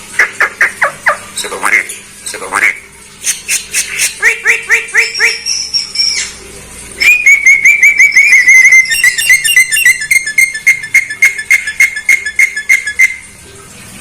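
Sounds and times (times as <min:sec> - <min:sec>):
myna bird calling: 0:00.2 - 0:06.4, 0:07.0 - 0:13.3.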